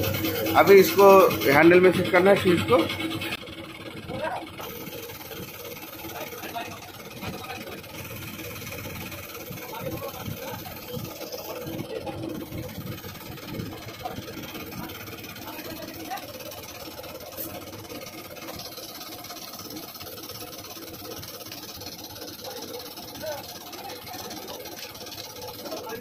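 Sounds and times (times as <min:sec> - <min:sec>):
engine-like hum: 0:00.0 - 0:26.0.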